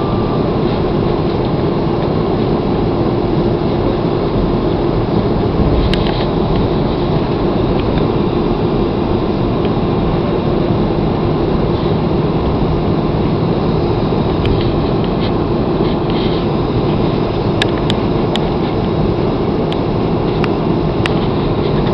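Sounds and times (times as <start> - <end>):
airliner cabin engine rumble: 0.0 - 21.9.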